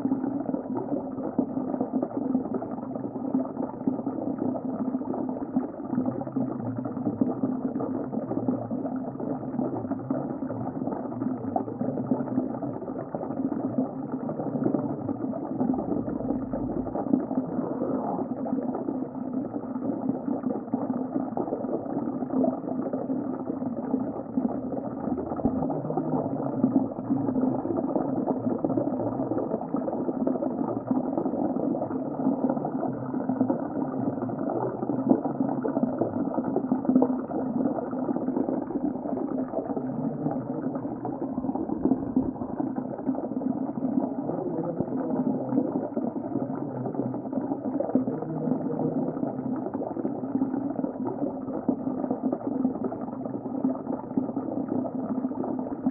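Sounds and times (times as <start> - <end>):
fine bubbling crackle: 0.0 - 55.9
muffled underwater rush: 0.0 - 55.9.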